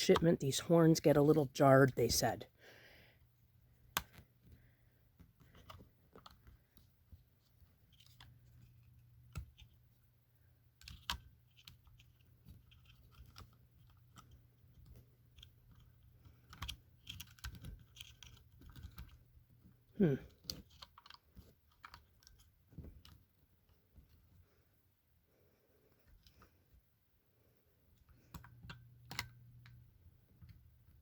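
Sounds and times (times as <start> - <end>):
faint steady low hum: 0.0 - 31.0.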